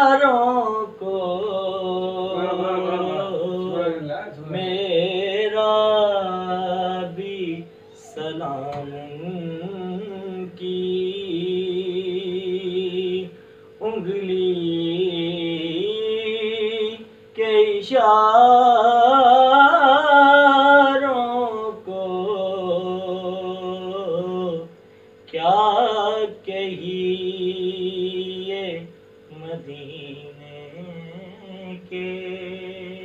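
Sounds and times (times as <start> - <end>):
man singing devotional song: 0.0 - 33.0.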